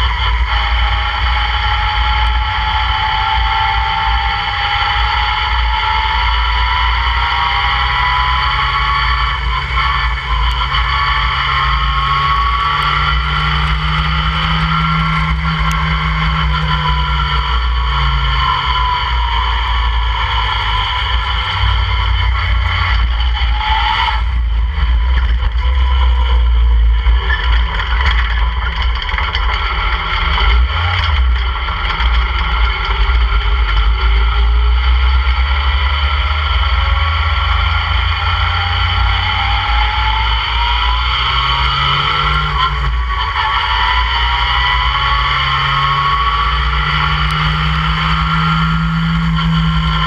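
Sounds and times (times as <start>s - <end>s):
race car engine running hard: 0.0s - 50.0s.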